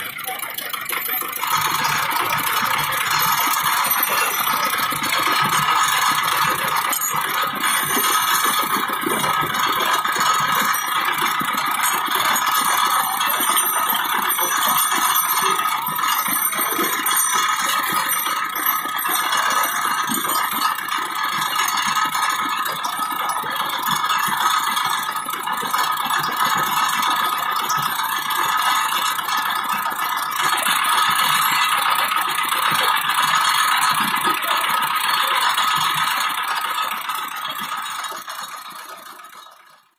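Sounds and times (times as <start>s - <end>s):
juice roller machine running: 0.0s - 39.9s.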